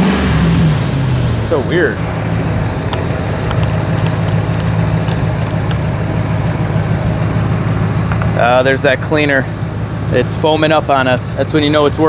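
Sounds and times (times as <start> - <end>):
truck engine idling: 0.5 - 12.0.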